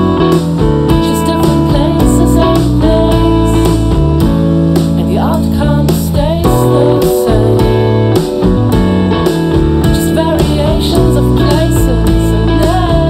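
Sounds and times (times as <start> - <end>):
band music: 0.0 - 13.0
guitar: 0.0 - 13.0.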